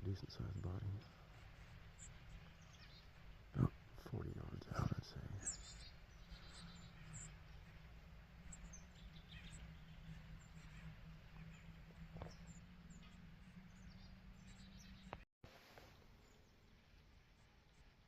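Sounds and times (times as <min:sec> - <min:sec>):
bird chirps: 0:00.0 - 0:15.2
low steady background hum: 0:00.0 - 0:18.0.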